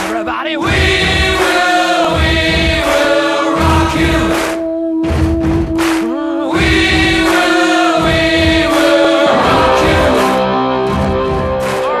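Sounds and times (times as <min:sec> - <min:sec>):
choral voices singing over a beat: 0:00.6 - 0:04.9, 0:05.9 - 0:12.0.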